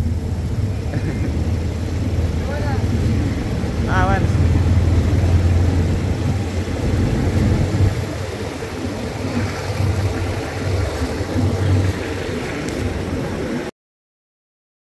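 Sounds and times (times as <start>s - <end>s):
passing train: 0.0s - 13.7s
train coaches rumbling: 0.0s - 13.7s.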